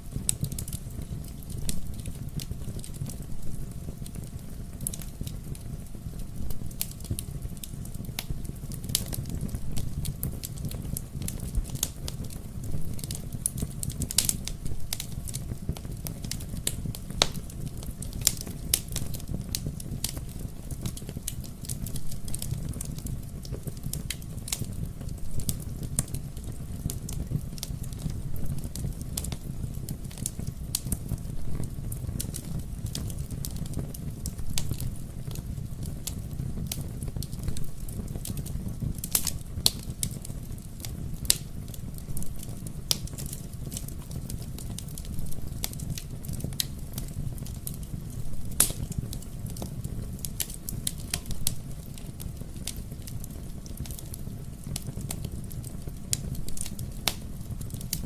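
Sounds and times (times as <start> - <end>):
fire crackling and popping: 0.0 - 58.0
wood fire flames rumbling: 0.0 - 58.0.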